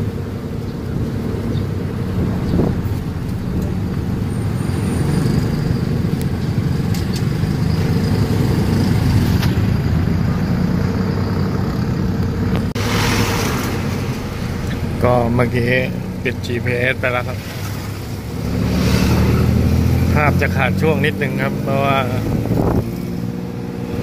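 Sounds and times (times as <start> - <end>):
road and traffic noise: 0.0 - 24.0
tuk-tuk engine running: 0.0 - 24.0.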